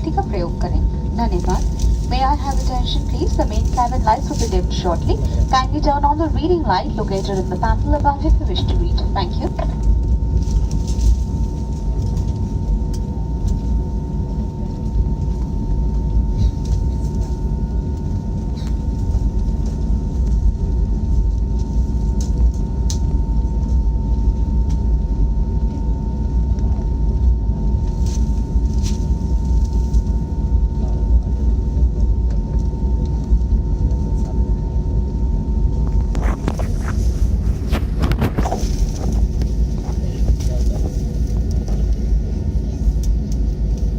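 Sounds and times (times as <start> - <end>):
high whine: 0.0 - 43.9
low engine rumble: 0.0 - 43.9.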